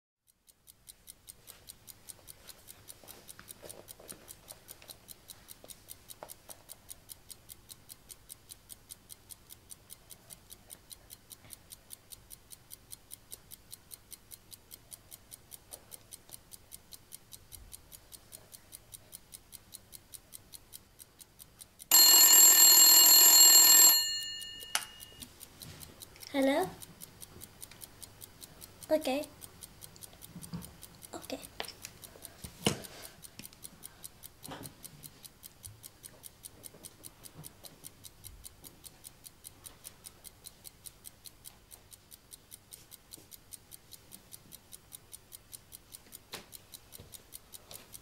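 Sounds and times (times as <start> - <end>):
clock ticking: 0.3 - 48.0.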